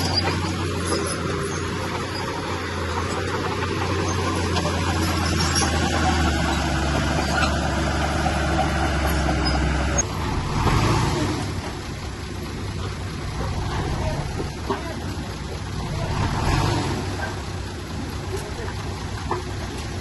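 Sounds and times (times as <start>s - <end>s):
heavy machinery diesel engine: 0.0s - 20.0s
rough machine noise: 0.0s - 20.0s.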